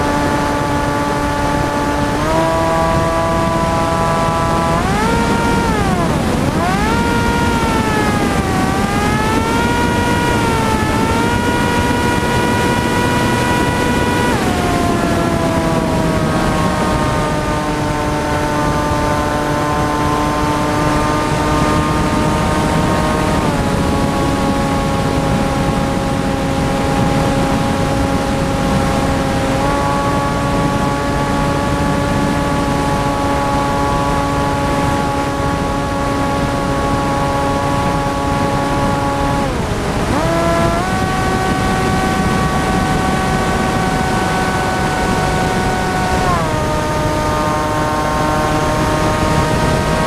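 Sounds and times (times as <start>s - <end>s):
electric motor and propeller whine: 0.0s - 50.0s
wind rushing: 0.0s - 50.0s.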